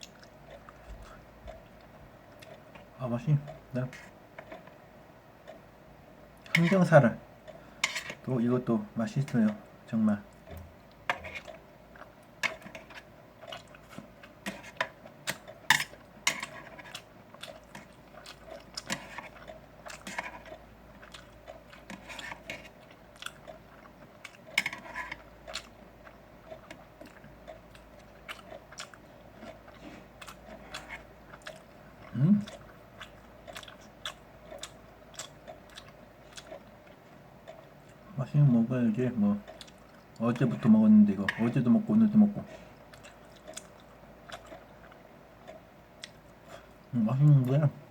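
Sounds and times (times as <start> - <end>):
mouth chewing food: 0.0 - 5.7, 9.2 - 47.9.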